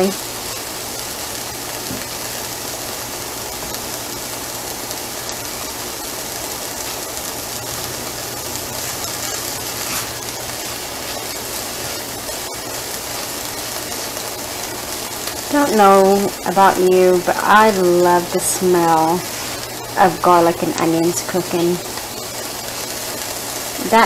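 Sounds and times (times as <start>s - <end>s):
onions sizzling in oil: 0.0s - 24.0s
low steady hum: 1.8s - 24.0s.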